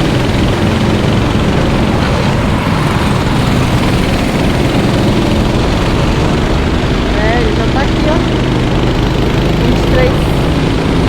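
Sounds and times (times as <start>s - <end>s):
racing kart engines droning: 0.0s - 11.0s.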